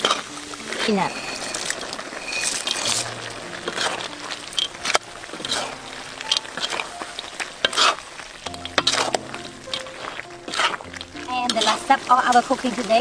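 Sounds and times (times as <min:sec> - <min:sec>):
ladle scraping a pot: 0:00.0 - 0:11.9.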